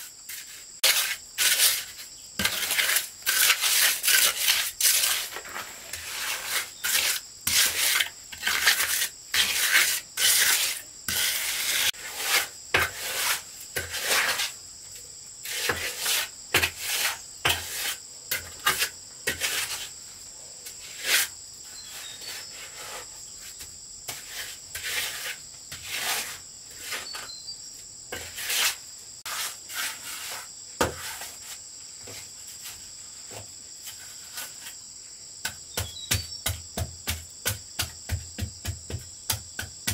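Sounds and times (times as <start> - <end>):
insects droning: 0.0 - 39.9
hand tool scraping and tapping: 0.2 - 19.9, 20.6 - 27.4, 28.1 - 34.8, 35.4 - 39.9.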